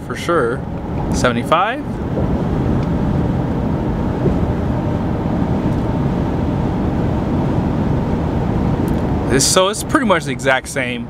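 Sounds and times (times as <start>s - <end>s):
diesel engine running low: 0.0s - 11.0s
tire road noise: 0.0s - 11.0s.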